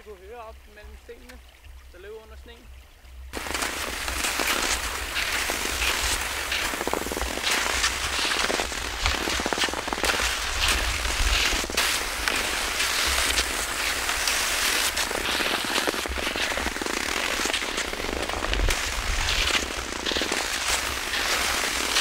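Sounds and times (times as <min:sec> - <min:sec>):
wind rumbling on microphone: 0:03.3 - 0:22.0
skis scraping over crusty snow: 0:03.4 - 0:22.0.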